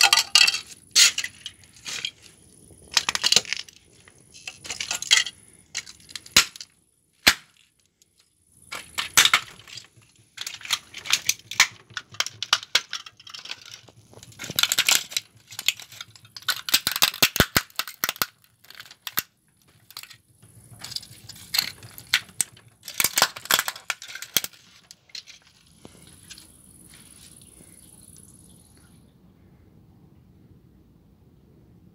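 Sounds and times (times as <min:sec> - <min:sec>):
plastic pieces cracking and snapping: 0:00.0 - 0:26.5.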